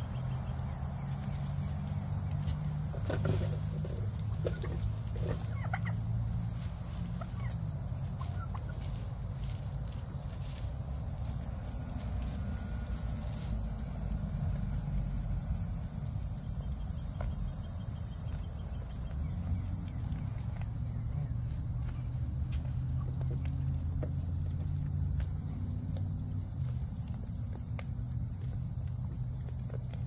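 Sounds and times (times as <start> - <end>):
goats chewing leaves: 0.2 - 15.9, 18.2 - 30.0.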